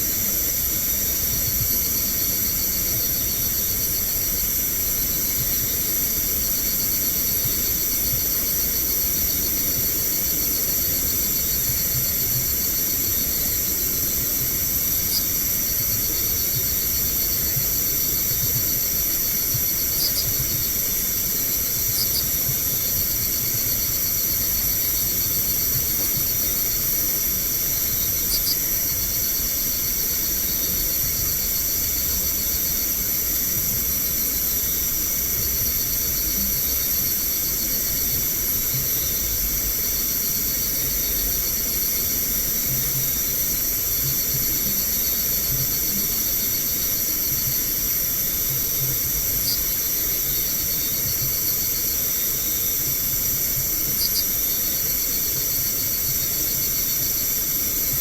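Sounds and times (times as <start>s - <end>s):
crickets and night insects: 0.0s - 58.0s.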